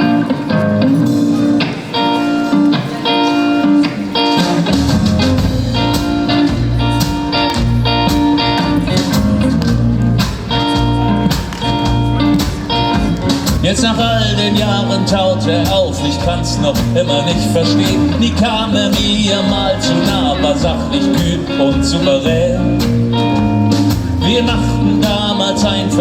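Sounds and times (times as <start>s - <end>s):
guitar chords: 0.0s - 26.0s
percussion: 0.0s - 26.0s
low bass line: 4.7s - 26.0s.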